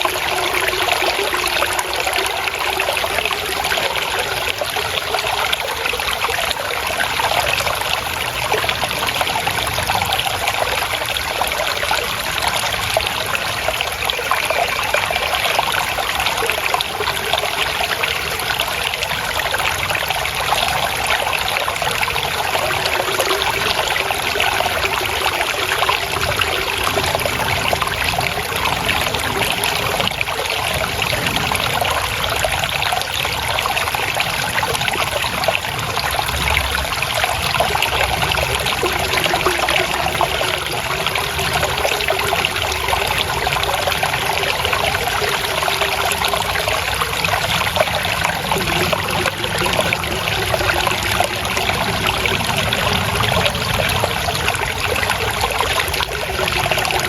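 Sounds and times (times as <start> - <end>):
water babbling over stones: 0.0 - 57.0.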